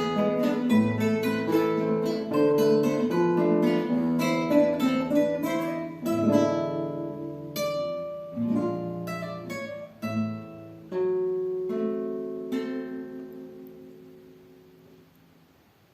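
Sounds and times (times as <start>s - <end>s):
two guitars playing: 0.0s - 15.4s.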